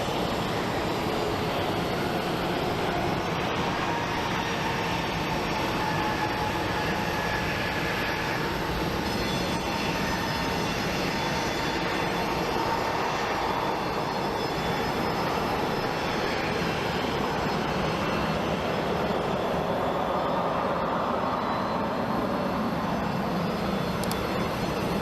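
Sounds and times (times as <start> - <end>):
jet engine rush with whine: 0.0 - 25.0.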